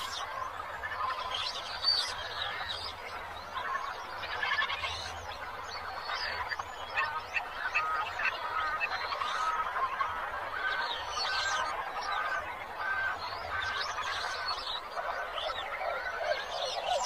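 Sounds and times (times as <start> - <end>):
birds calling and chirping: 0.0 - 17.0.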